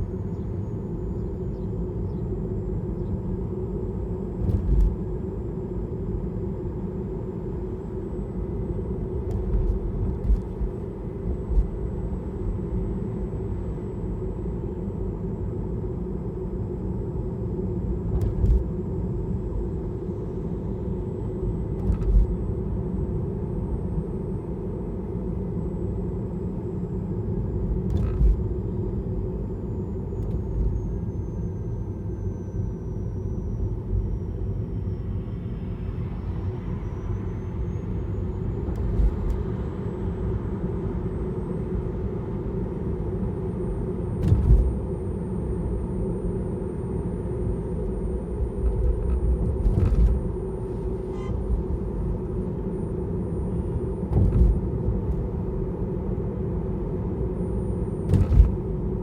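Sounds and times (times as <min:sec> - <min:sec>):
high whirring electric motor whine: 0:00.0 - 0:59.0
road rumble: 0:00.0 - 0:59.0.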